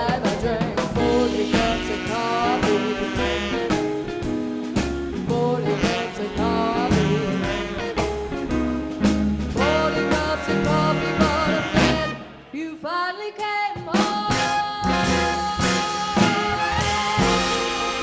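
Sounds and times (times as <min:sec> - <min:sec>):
swing band playing: 0:00.0 - 0:18.0.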